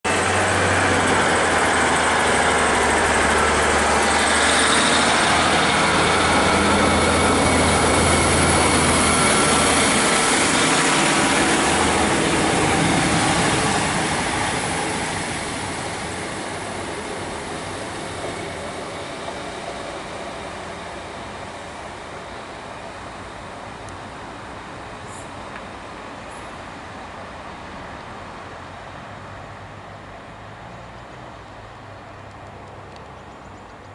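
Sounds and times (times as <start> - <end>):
diesel train engines droning: 0.1 - 33.9.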